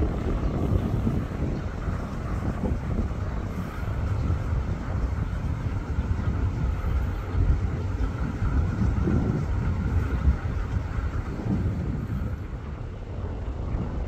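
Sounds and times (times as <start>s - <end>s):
locomotive engine idling: 0.0s - 14.0s.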